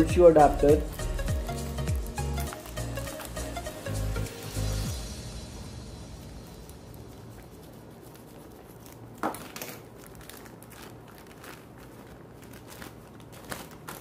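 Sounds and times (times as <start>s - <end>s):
plastic bag crinkling: 0.0s - 3.8s, 6.0s - 14.0s.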